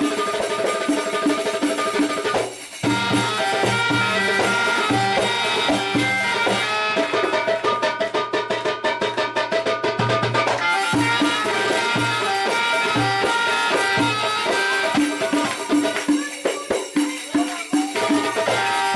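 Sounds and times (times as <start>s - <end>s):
hand drum rhythm: 0.0s - 18.9s.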